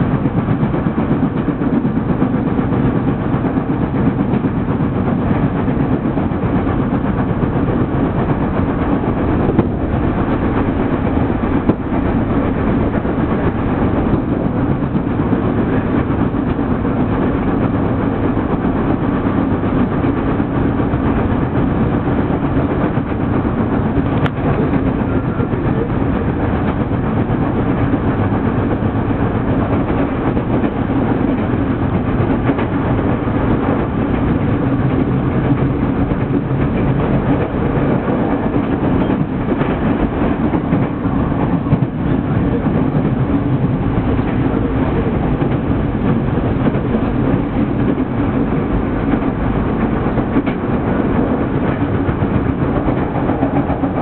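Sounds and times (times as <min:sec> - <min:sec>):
constant low drone: 0:00.0 - 0:54.0
train wheels on rail: 0:00.0 - 0:54.0.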